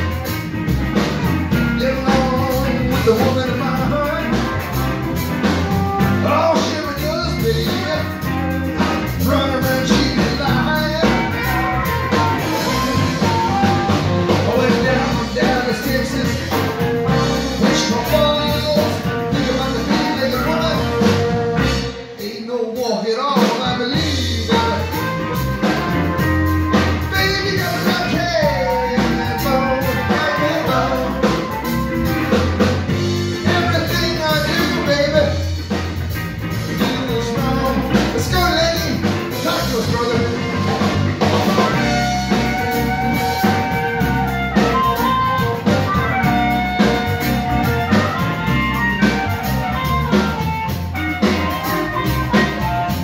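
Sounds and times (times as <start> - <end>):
live blues-rock band: 0.0 - 53.0
person singing: 1.5 - 4.6, 5.7 - 8.3, 9.1 - 25.5, 26.8 - 35.6, 36.7 - 53.0.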